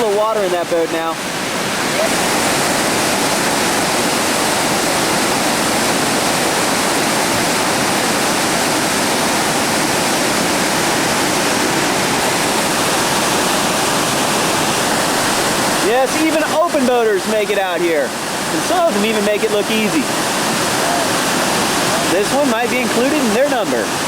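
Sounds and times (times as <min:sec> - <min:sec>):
whitewater rapid roaring: 0:00.0 - 0:24.0.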